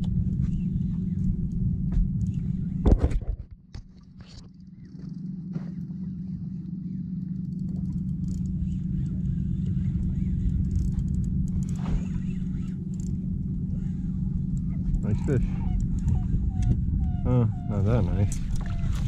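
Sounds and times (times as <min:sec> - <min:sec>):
boat engine humming: 0:00.0 - 0:03.0, 0:03.6 - 0:19.0.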